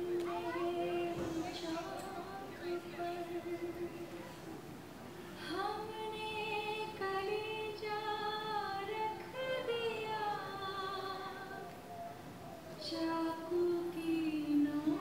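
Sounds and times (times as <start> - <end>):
woman singing slow melody: 0.0 - 11.9, 12.7 - 15.0.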